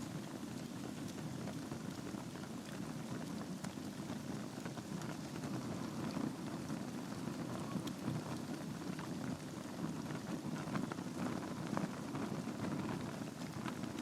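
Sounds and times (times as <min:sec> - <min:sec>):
burning wood crackling: 0:00.0 - 0:14.0
low rush of flame: 0:00.0 - 0:14.0.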